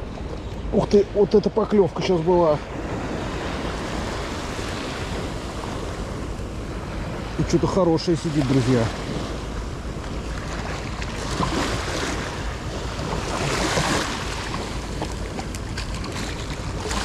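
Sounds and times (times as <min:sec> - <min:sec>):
sea waves washing ashore: 0:00.0 - 0:17.0
wind rumbling on microphone: 0:00.0 - 0:17.0.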